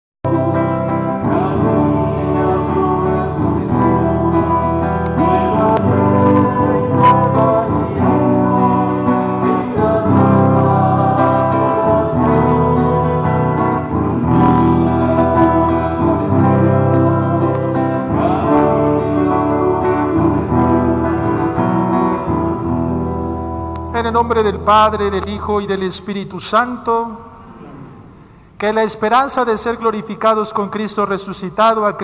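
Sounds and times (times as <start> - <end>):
strummed guitar chords: 0.2 - 26.1
hymn singing: 0.2 - 30.7.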